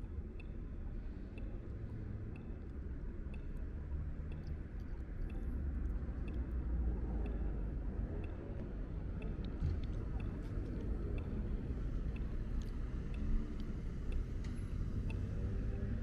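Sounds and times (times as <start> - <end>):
faint light ticks: 0.0 - 16.0
low street rumble: 0.0 - 16.0.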